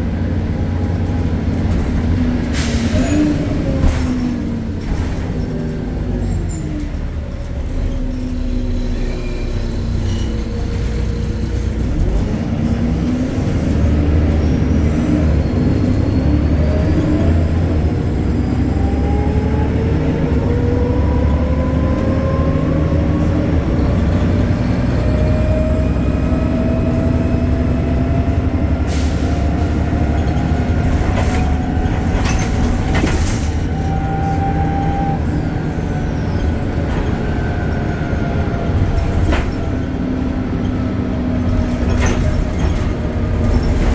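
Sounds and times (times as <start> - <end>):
bus drivetrain droning: 0.0 - 43.9
bus gearbox whine: 0.1 - 13.0, 19.5 - 43.9.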